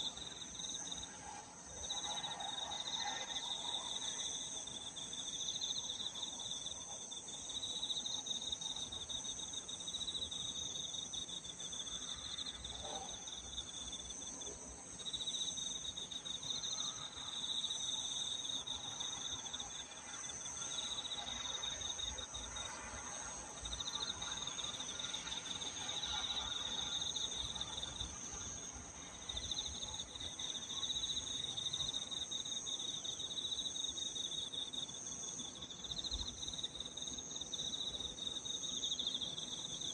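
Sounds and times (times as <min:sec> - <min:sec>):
continuous insect ringing: 0:00.0 - 0:39.9.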